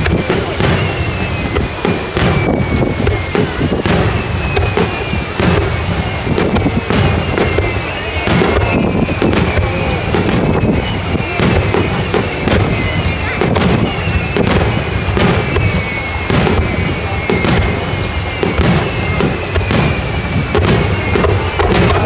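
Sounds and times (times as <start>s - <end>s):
fireworks bangs and crackles: 0.0s - 22.0s
high whistling fireworks: 0.0s - 22.0s.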